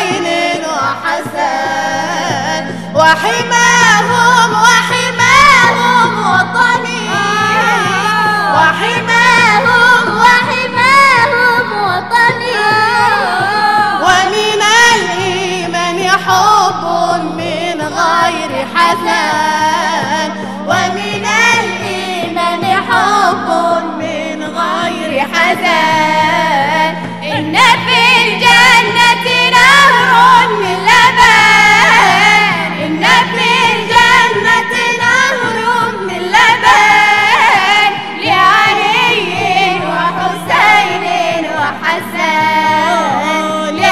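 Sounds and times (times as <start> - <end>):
group singing devotional song: 0.0 - 43.9.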